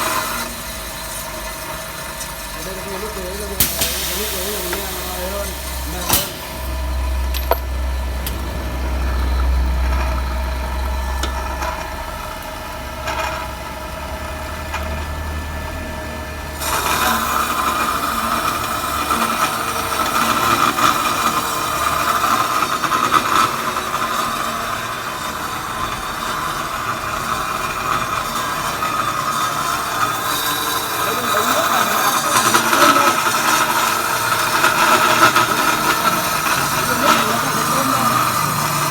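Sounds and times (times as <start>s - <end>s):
loud high steady machine noise: 0.0s - 38.9s
pipe-cutting machine hum: 0.0s - 38.9s.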